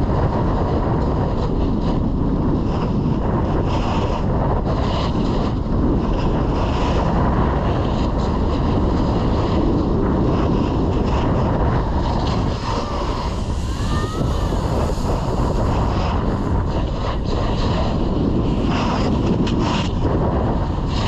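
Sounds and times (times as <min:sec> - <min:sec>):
wind rush on microphone: 0:00.0 - 0:21.0
snowboard scraping icy snow: 0:02.7 - 0:21.0.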